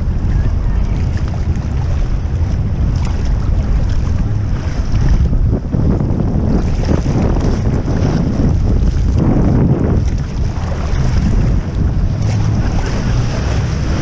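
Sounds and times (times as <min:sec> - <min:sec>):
waves splashing against hull: 0:00.0 - 0:14.0
wind buffeting microphone: 0:00.0 - 0:14.0.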